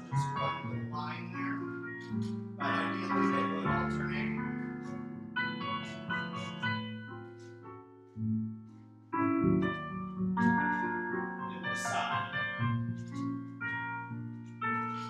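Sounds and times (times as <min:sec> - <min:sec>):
piano chords and melody: 0:00.0 - 0:15.0.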